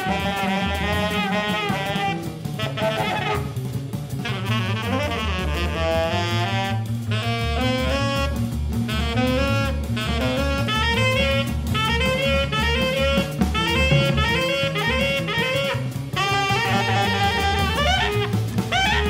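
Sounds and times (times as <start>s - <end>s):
drum kit with cymbals: 0.0s - 19.0s
tenor saxophone: 0.0s - 19.0s
walking bass: 0.0s - 19.0s.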